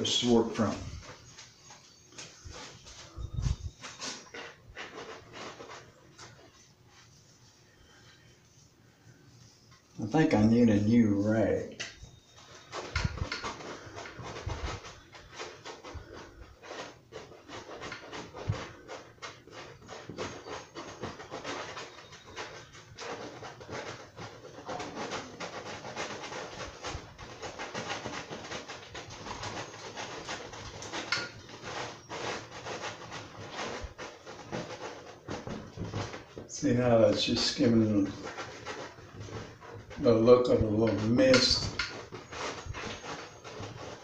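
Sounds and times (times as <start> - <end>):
bristle brush scrubbing canvas: 0.0 - 44.0.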